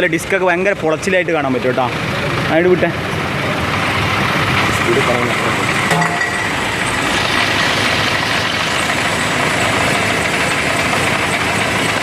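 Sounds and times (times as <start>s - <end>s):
car engine running: 0.2s - 12.0s.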